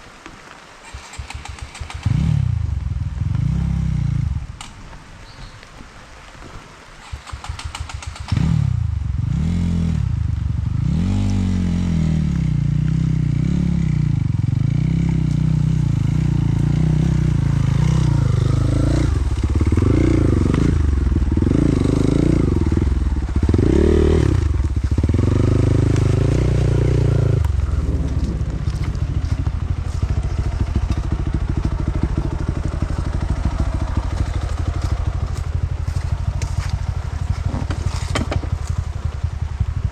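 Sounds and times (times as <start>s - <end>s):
motorcycle engine revving: 0.8s - 4.7s, 7.0s - 39.9s.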